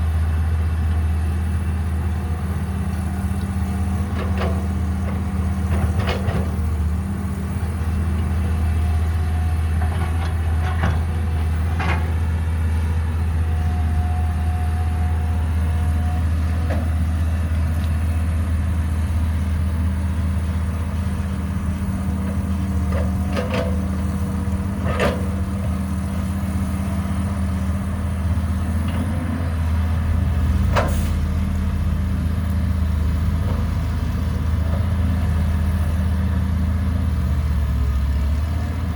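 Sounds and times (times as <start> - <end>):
excavator diesel engine humming: 0.0 - 38.9.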